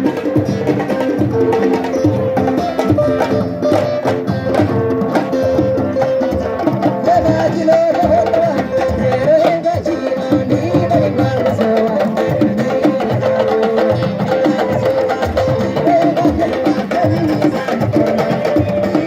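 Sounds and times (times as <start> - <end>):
hand drums beating: 0.0 - 19.0
wavering melody: 0.0 - 19.0.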